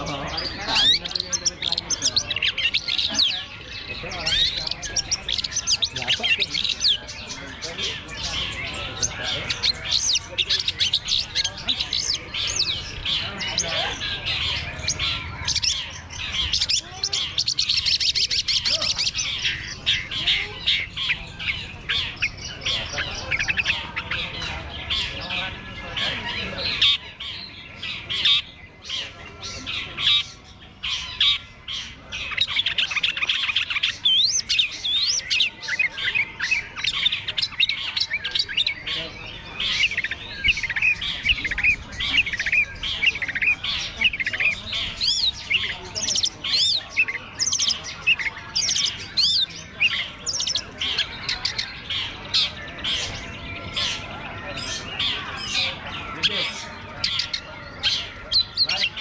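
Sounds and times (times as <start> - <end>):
other birds singing: 0.0 - 59.0
shrike singing: 0.0 - 59.0.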